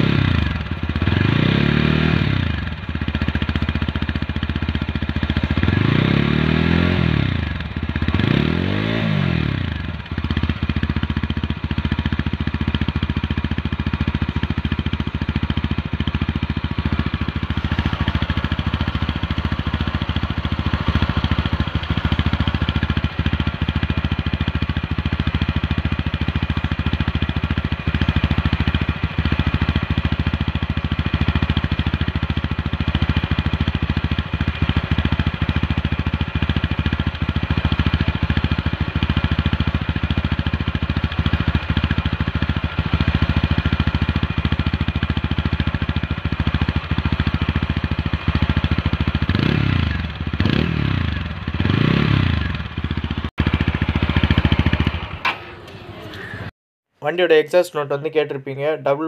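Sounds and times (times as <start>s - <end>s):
motorcycle engine revving and idling: 0.0s - 56.5s.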